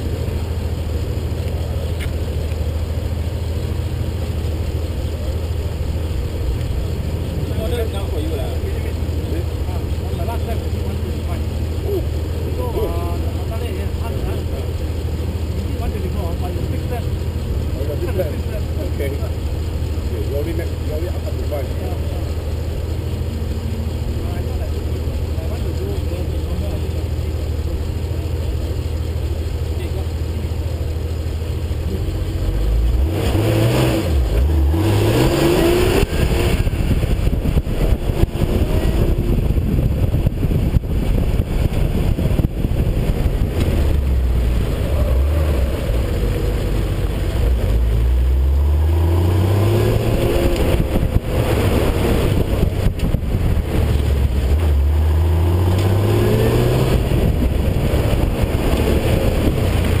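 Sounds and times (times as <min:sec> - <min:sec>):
car engine accelerating through gears: 0:00.0 - 1:00.0.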